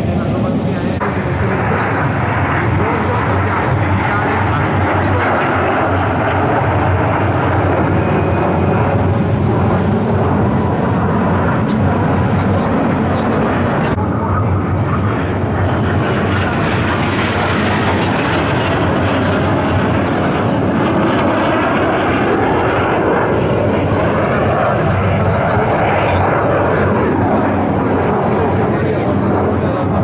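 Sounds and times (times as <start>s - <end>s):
jet aircraft flying overhead: 0.0s - 30.0s.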